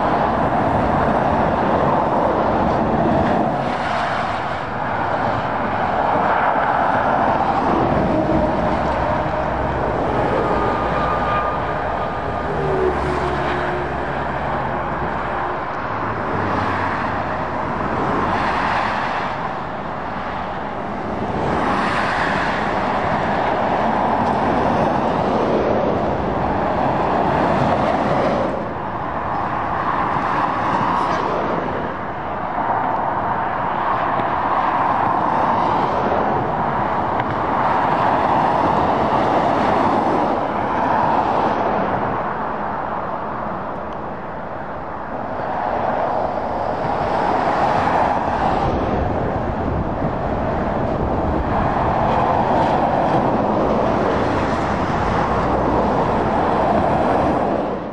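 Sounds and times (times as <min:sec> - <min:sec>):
vehicles passing on road: 0:00.0 - 0:57.9.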